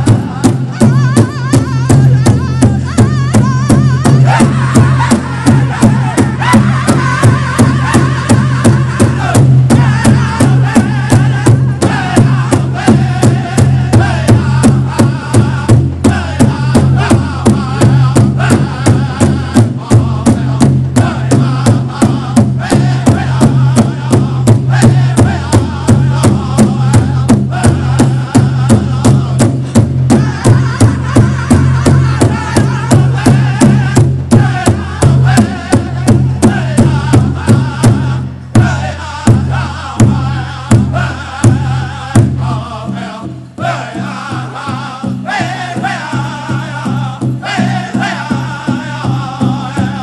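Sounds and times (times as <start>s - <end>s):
big drum beat: 0.0s - 50.0s
group of singers chanting: 0.0s - 50.0s.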